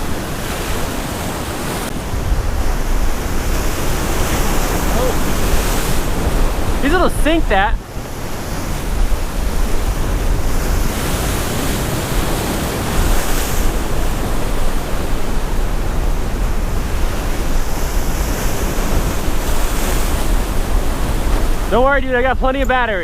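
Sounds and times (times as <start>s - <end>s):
surf breaking against jetty: 0.0s - 23.0s
wind rumbling on microphone: 0.0s - 23.0s.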